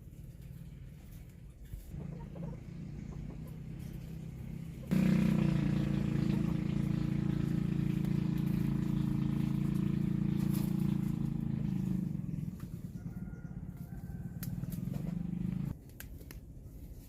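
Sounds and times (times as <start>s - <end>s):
engine humming: 0.0s - 15.8s.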